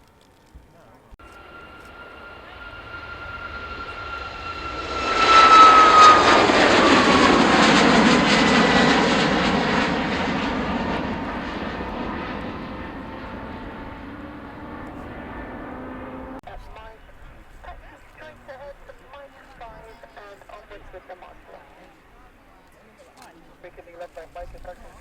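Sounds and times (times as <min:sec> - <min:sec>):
jet airliner passing: 0:00.2 - 0:22.7.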